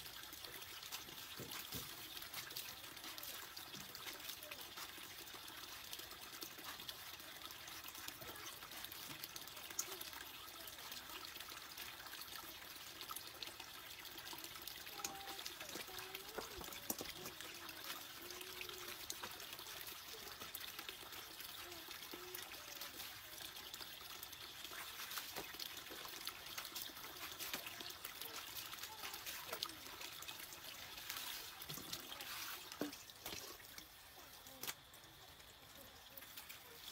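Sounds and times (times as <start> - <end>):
stream trickling over rocks: 0.0 - 36.9.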